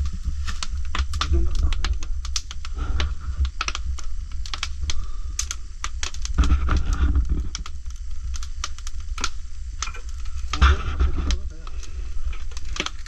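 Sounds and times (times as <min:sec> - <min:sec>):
firewood crackling and popping: 0:00.0 - 0:13.0
low steady rumble: 0:00.0 - 0:13.0.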